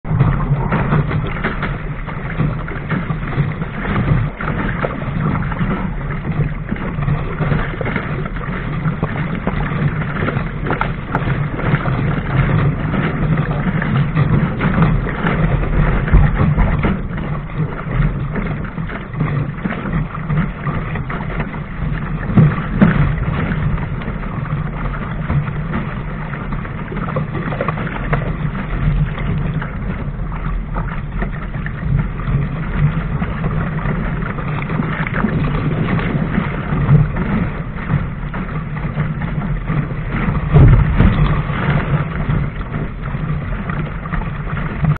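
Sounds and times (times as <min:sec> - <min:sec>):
water rushing along a hull: 0:00.0 - 0:44.9
waves slapping against hull: 0:00.0 - 0:44.9
wind buffeting microphone: 0:00.0 - 0:44.9.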